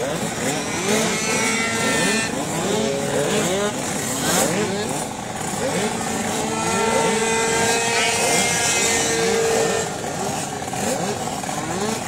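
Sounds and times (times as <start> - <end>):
engine held at high revs: 0.0 - 12.0
scooter engines revving: 0.0 - 12.0.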